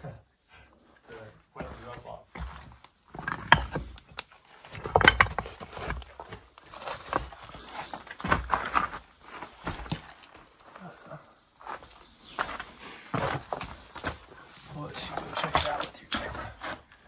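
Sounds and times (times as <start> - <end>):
footsteps on rocky ground: 1.6 - 17.0.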